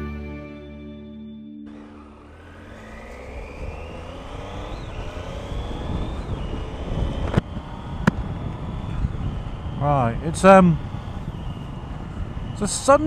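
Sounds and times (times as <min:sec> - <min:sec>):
motorcycle engine revving through gears: 0:01.7 - 0:13.0
rushing road noise: 0:01.7 - 0:13.0.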